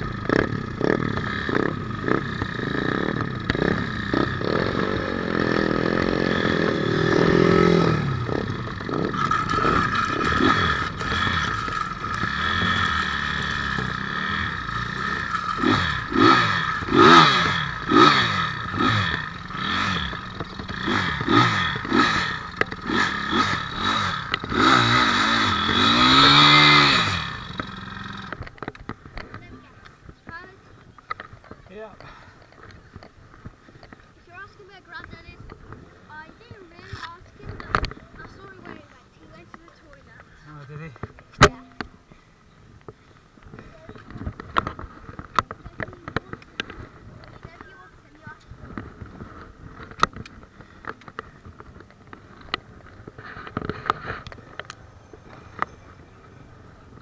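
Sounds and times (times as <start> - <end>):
motorcycle engine revving: 0.0 - 42.1, 43.4 - 57.0.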